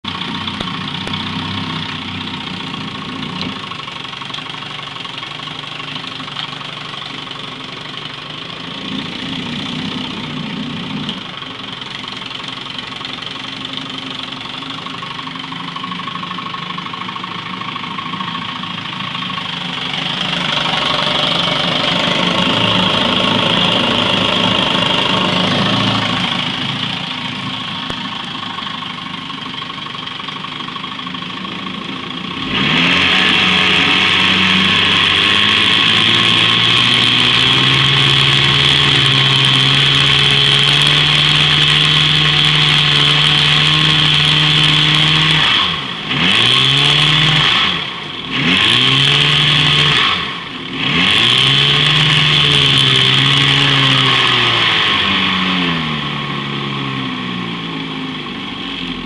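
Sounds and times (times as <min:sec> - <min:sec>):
two-stroke outboard motor running: 0:00.0 - 0:59.0.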